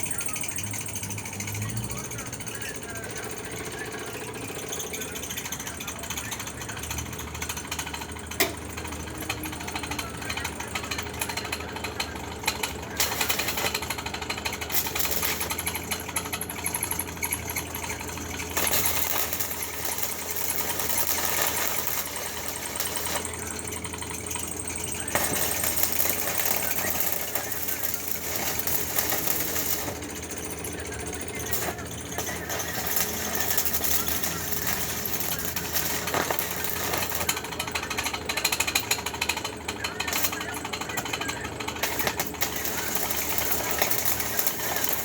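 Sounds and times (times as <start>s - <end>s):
arc welding crackling sizzle: 7.7s - 45.0s.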